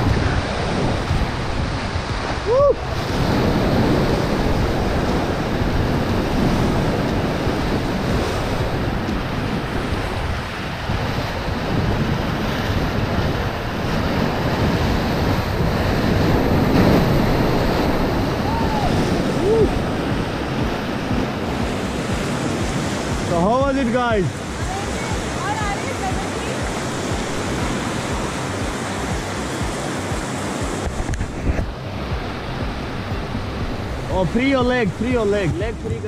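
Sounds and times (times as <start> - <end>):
rapids rushing and splashing: 0.0 - 36.0
wind buffeting microphone: 0.0 - 36.0.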